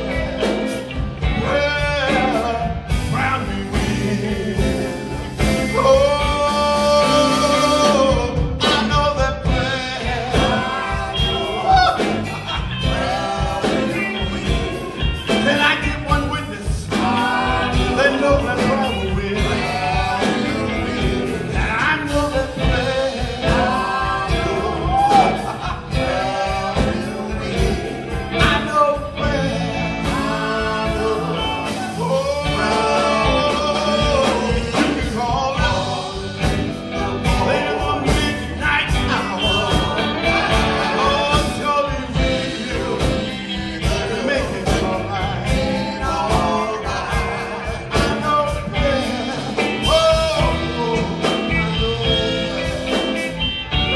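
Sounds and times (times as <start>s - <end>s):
electric guitars and drums: 0.0s - 53.9s
gospel group singing: 0.0s - 53.9s.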